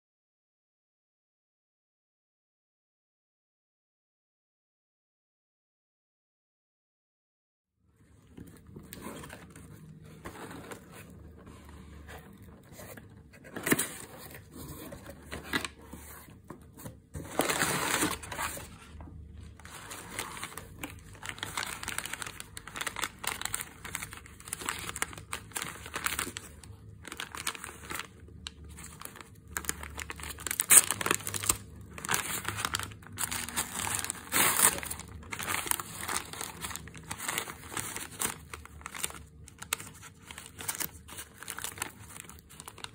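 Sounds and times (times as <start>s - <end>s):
newspaper crinkling and rustling: 8.1s - 42.9s.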